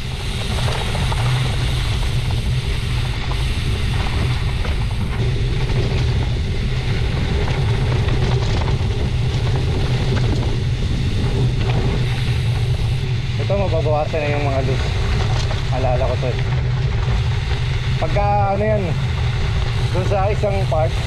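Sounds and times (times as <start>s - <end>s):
bike tyres rolling on gravel: 0.0s - 21.0s
stones ticking: 0.0s - 21.0s
wind buffeting microphone: 0.0s - 21.0s.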